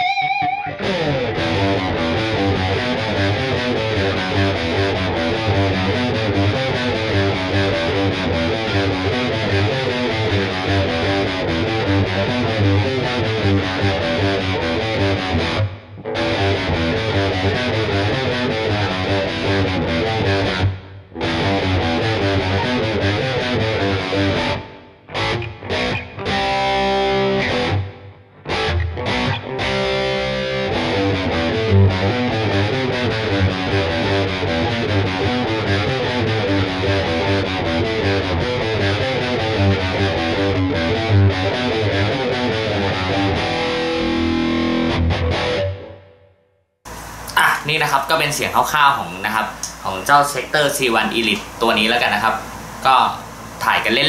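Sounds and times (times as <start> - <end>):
distorted electric guitar riffing: 0.0 - 46.3.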